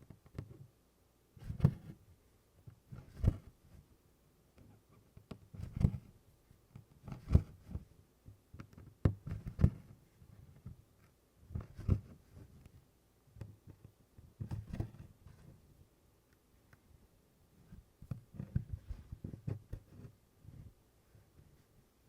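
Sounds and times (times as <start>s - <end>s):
needle and thread through fabric: 1.4s - 3.9s, 4.6s - 12.8s, 13.4s - 15.7s, 17.5s - 22.0s.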